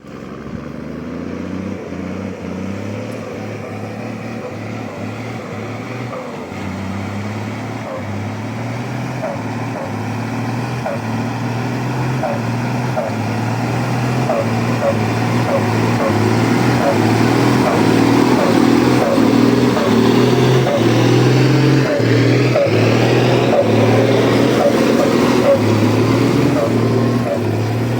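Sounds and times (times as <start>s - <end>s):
truck engine driving off: 0.0s - 27.9s.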